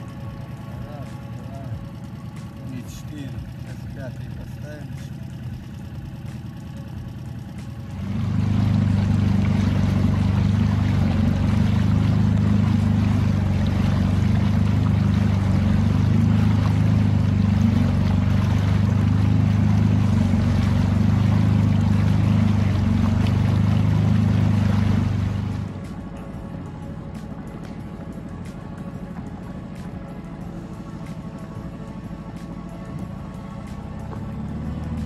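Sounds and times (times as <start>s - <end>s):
outboard motor running: 0.0s - 35.0s
water noise: 0.0s - 35.0s.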